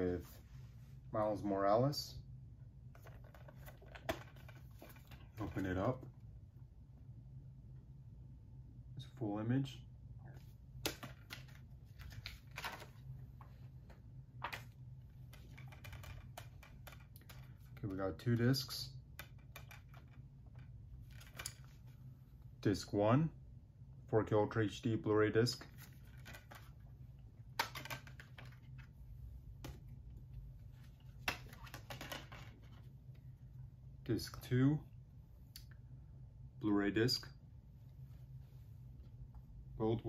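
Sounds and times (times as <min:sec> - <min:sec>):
faint low hum: 0:00.0 - 0:40.0.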